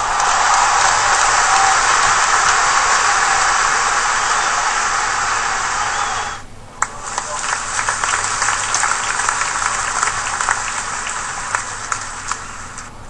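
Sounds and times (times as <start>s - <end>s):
applause: 0.0s - 5.9s, 6.8s - 12.9s
steady hiss: 0.0s - 13.0s.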